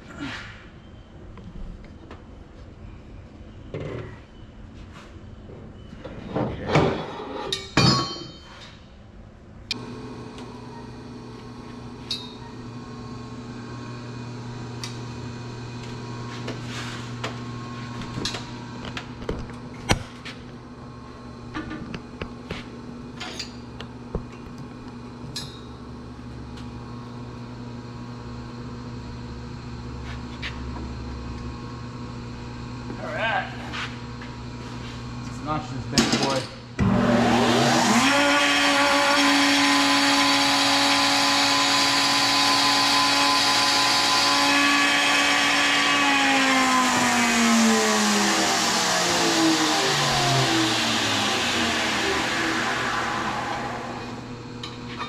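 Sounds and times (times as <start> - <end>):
machine hum: 9.7 - 55.0.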